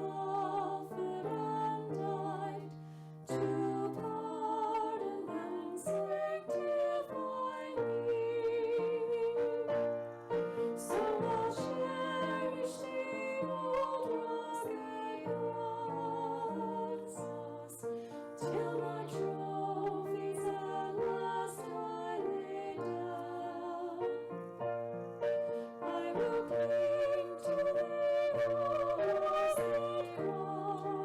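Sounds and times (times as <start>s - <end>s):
slow soft music: 0.0s - 31.0s.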